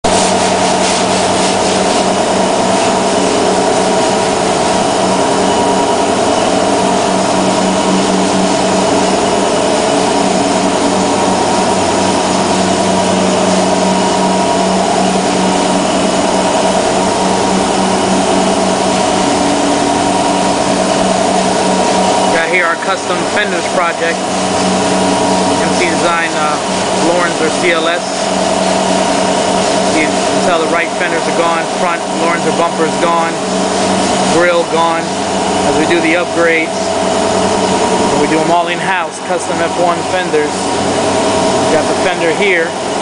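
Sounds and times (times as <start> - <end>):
power tool running: 0.0 - 43.0.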